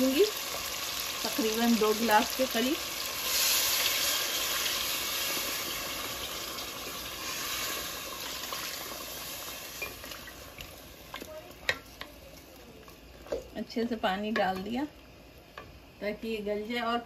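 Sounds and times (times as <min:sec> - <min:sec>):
water sizzling in a hot pot: 0:00.0 - 0:16.0.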